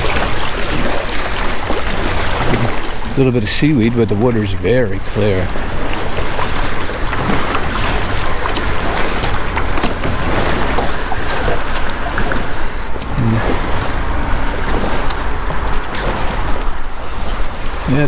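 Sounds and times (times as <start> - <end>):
water lapping around pilings: 0.0 - 18.0
wind rumbling on microphone: 0.0 - 18.0.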